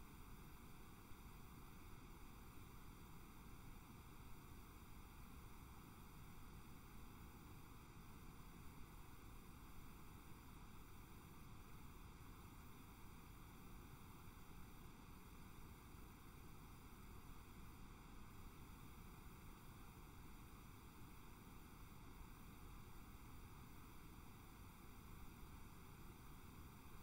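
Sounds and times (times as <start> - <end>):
faint recording hiss: 0.0 - 27.0.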